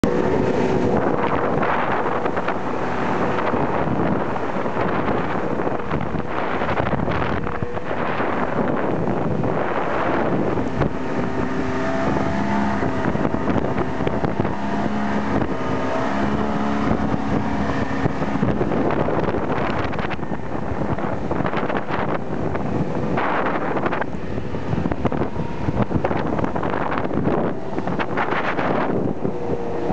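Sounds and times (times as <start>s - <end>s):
outboard motor running: 0.0s - 29.9s
water spraying off hull: 0.0s - 29.9s
wind buffeting microphone: 0.0s - 29.9s.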